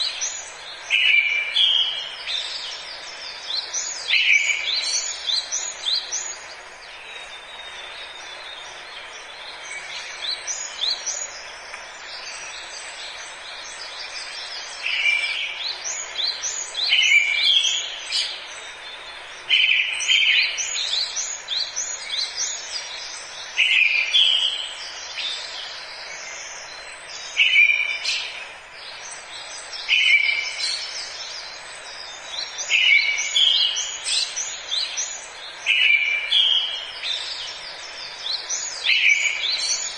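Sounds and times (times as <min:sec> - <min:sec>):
birds chirping and singing: 0:00.0 - 0:39.9
steady background hiss: 0:00.0 - 0:39.9.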